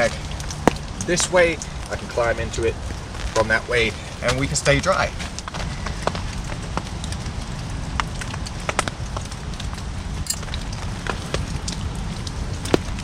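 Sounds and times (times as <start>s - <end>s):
rain dripping on a tarp: 0.0s - 13.0s
steady low rumble: 0.0s - 13.0s.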